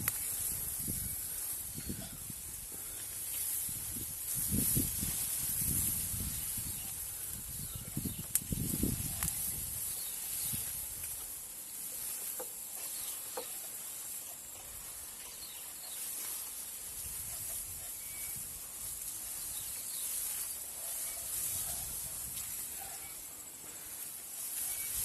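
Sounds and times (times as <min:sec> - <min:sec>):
high-pitched outdoor hiss: 0:00.0 - 0:25.0.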